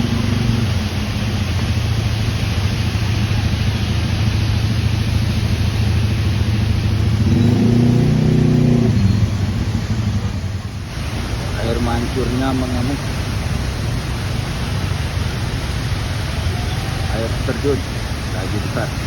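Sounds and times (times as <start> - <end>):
vehicle engine humming: 0.0 - 19.0
waterfall rushing: 0.0 - 19.0.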